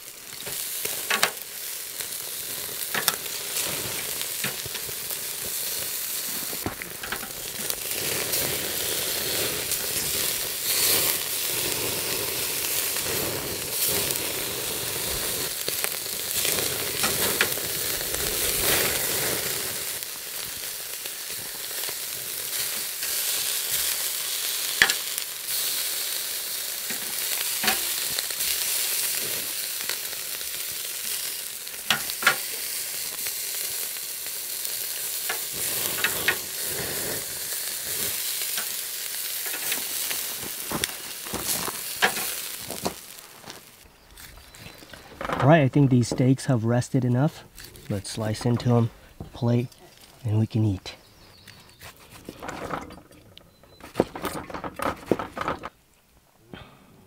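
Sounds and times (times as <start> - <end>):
steaks sizzling on a grill: 0.0 - 45.1, 46.3 - 48.9
sharp crackles and pops: 0.0 - 56.3.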